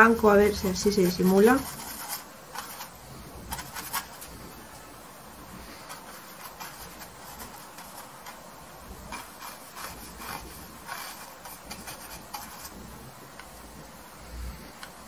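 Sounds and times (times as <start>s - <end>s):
paintbrush scrubbing on canvas: 0.5s - 13.2s.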